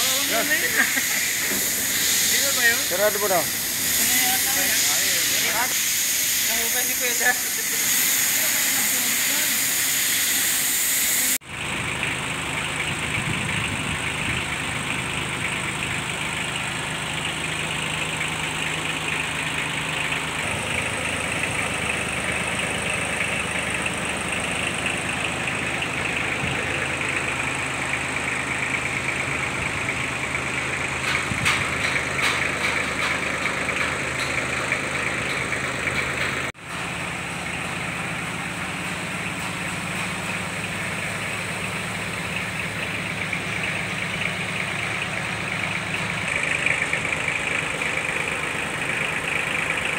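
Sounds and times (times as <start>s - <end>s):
tractor diesel engine idling: 0.0s - 9.8s, 11.2s - 49.9s.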